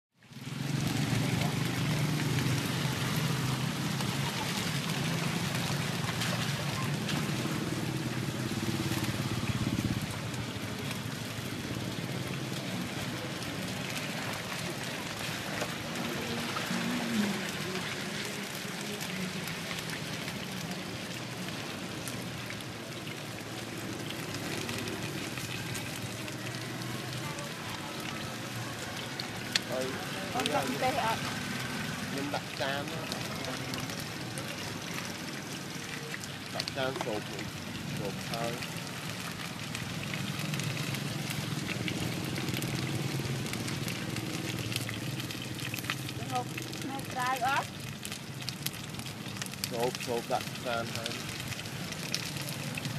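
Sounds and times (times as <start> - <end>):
cakes sizzling in oil: 0.2 - 52.9
oil crackling: 0.2 - 52.9.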